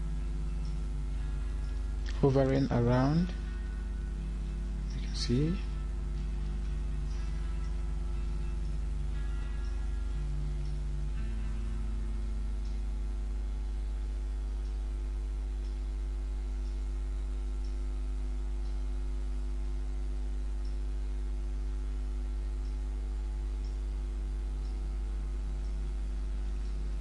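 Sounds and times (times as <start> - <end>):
faint ticking: 0.0 - 27.0
steady low hum: 0.0 - 27.0.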